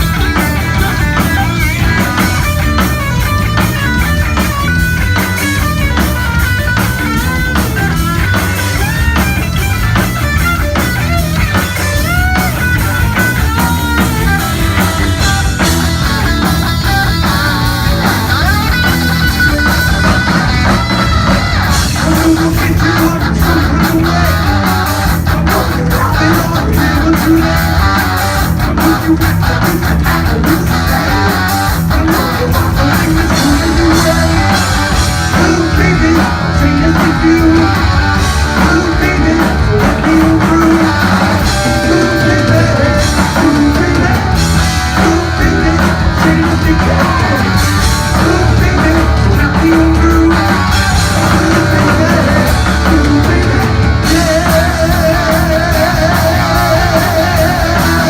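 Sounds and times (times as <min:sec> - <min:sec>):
heavy metal band playing live: 0:00.0 - 0:58.0
lead guitar bending notes: 0:00.0 - 0:58.0.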